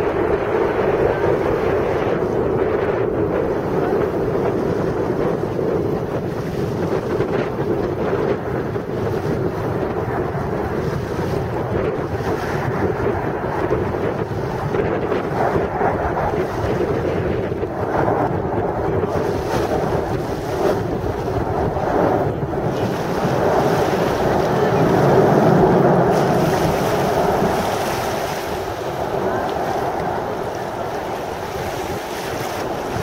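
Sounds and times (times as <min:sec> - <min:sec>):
jets flying past: 0:00.0 - 0:33.0.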